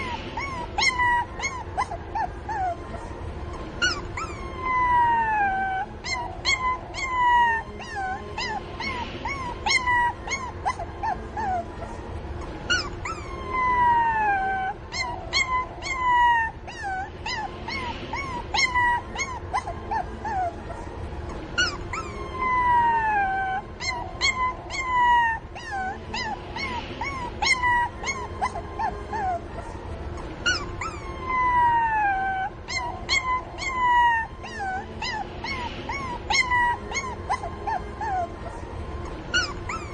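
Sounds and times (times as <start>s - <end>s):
puppies whining and yelping: 0.0s - 39.9s.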